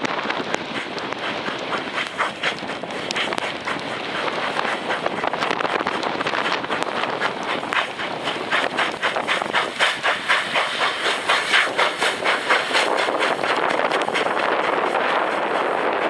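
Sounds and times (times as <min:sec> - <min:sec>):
steam locomotive chuffing: 0:00.0 - 0:16.0
hiss of steam: 0:00.3 - 0:16.0.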